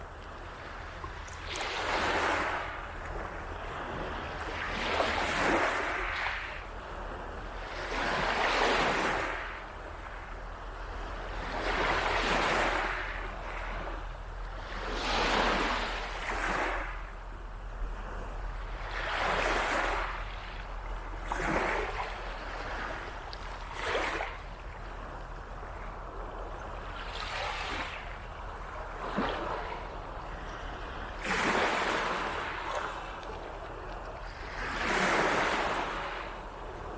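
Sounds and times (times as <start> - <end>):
small waves washing up beach: 0.0 - 17.2, 17.8 - 36.9.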